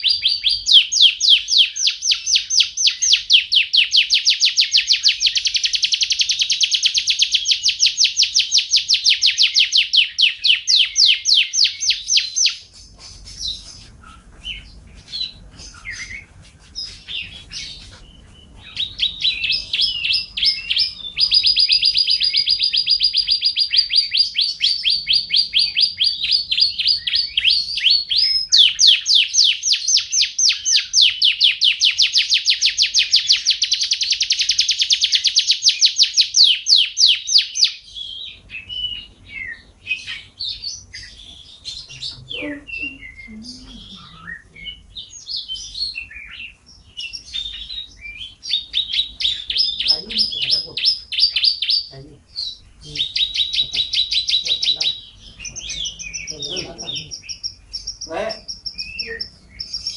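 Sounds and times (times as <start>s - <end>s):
bird singing rapid trill: 0.0s - 59.9s.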